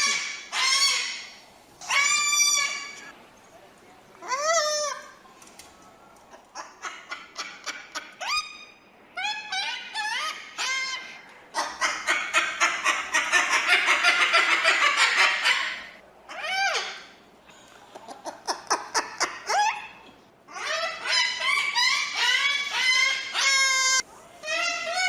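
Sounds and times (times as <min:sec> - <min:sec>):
cockatoo squawking: 0:00.0 - 0:03.1, 0:06.5 - 0:17.2, 0:18.2 - 0:25.0.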